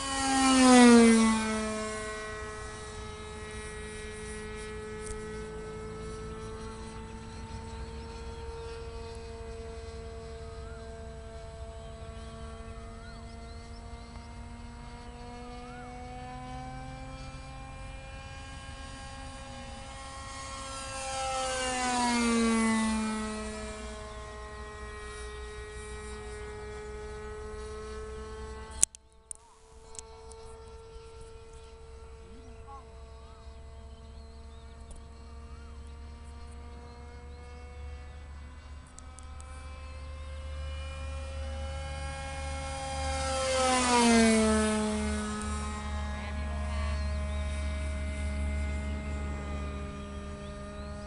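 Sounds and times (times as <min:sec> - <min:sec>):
model airplane engine droning: 0:00.0 - 0:51.0.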